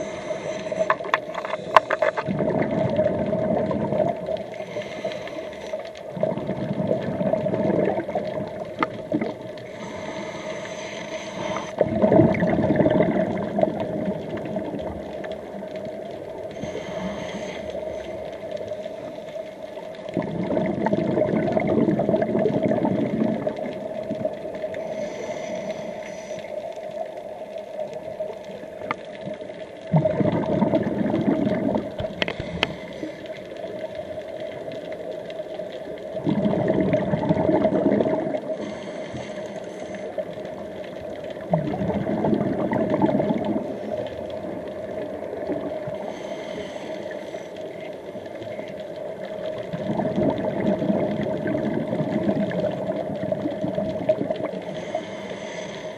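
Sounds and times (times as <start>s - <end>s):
exhaled bubbles underwater: 0.0s - 55.7s.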